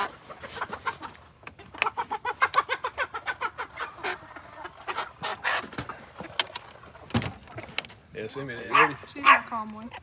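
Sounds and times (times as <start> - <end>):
chicken clucking and squawking: 0.0 - 7.0, 8.6 - 10.0.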